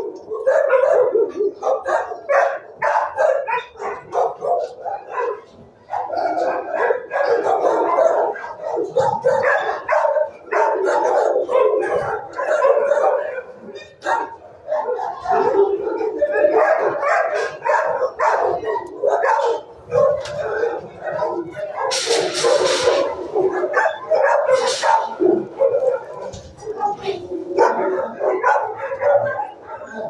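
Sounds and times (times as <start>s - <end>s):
dogs barking: 0.0s - 30.0s.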